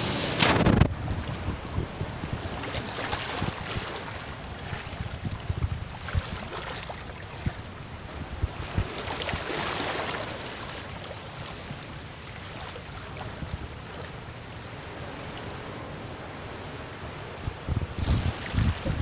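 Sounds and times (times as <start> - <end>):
seawater washing over rocks: 0.0 - 14.0, 17.7 - 19.0.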